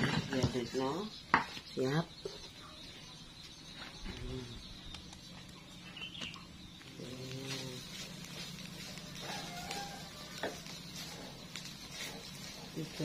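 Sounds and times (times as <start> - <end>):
high insect chirring: 0.4 - 13.0.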